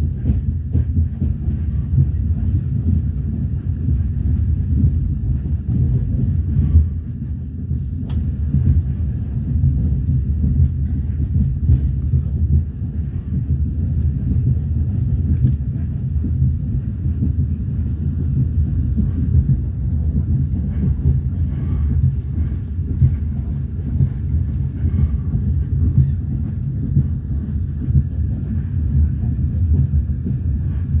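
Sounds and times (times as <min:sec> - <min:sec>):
train rumbling from inside carriage: 0:00.0 - 0:31.0.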